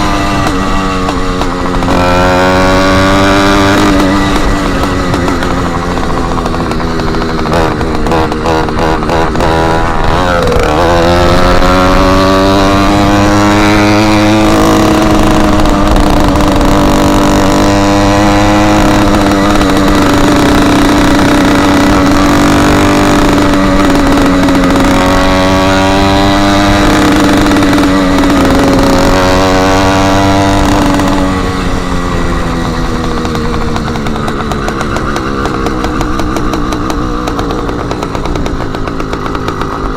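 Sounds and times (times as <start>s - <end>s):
small engine running loud: 0.0s - 39.9s.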